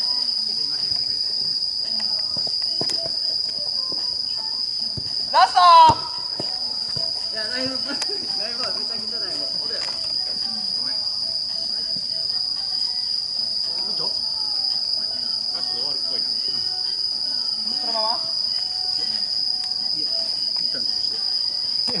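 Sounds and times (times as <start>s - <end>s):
night insects shrilling: 0.0s - 22.0s.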